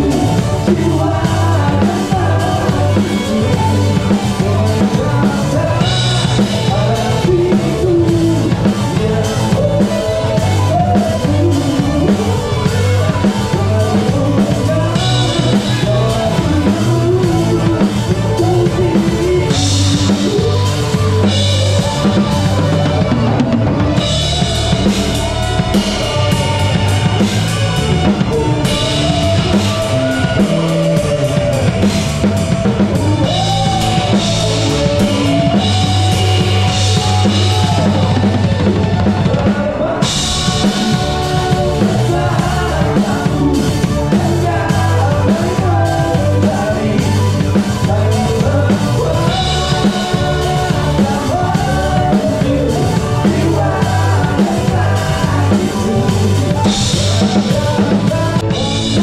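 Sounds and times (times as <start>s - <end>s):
band instruments: 0.0s - 59.0s
drum kit beat: 0.0s - 59.0s.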